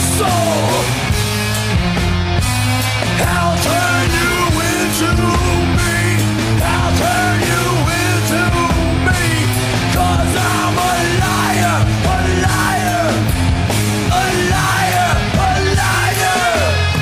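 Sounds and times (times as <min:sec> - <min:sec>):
drums and cymbals: 0:00.0 - 0:17.0.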